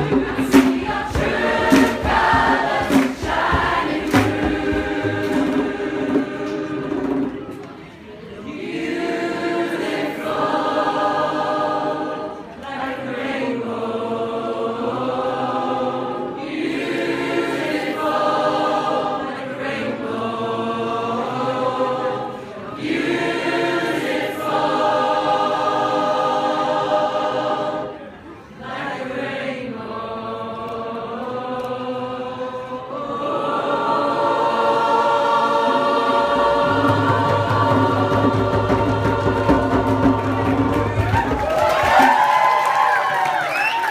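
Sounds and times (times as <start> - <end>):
choir singing in harmony: 0.0 - 43.9.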